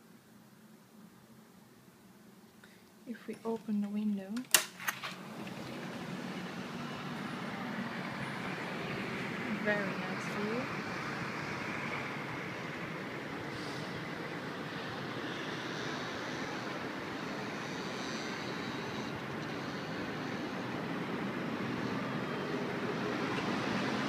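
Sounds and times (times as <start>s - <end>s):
cars and buses passing: 4.2s - 24.0s.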